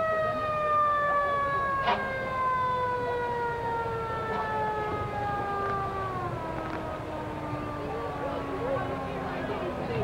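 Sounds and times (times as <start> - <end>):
fire truck siren wailing: 0.0 - 10.0.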